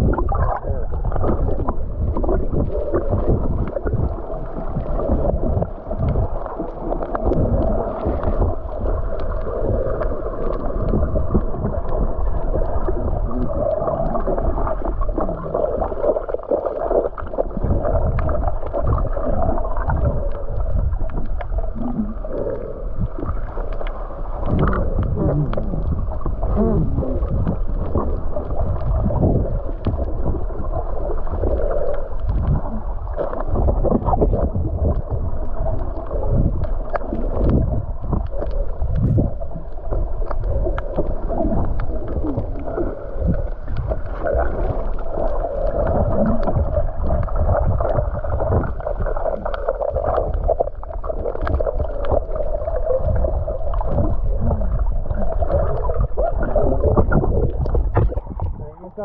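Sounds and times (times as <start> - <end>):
underwater water rushing: 0.0 - 59.0
faint underwater clicks: 0.1 - 59.0.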